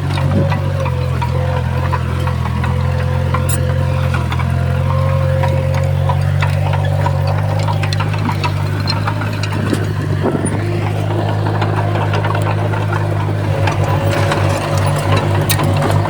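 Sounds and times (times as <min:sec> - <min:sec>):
bulldozer diesel engine running: 0:00.0 - 0:16.0
sharp clicks and clanks: 0:00.0 - 0:16.0.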